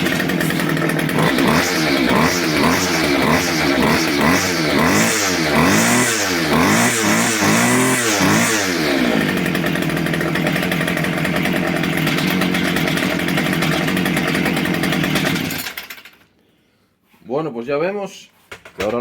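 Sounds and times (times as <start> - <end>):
string trimmer engine revving: 0.0 - 16.2.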